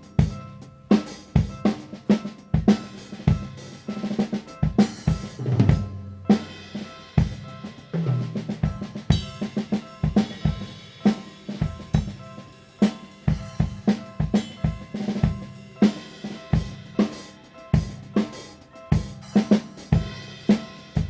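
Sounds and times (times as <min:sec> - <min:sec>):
drum kit playing a groove: 0:00.0 - 0:21.0.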